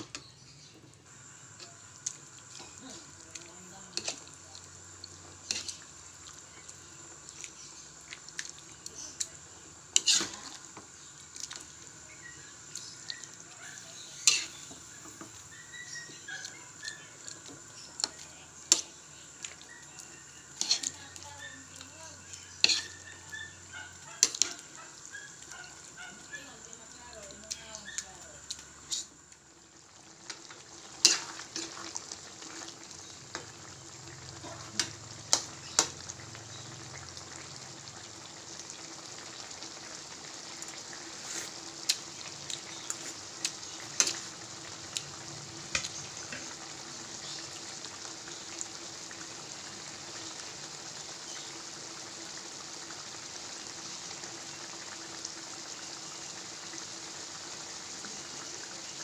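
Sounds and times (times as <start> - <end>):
sauce bubbling and sizzling in pan: 0.0 - 59.0.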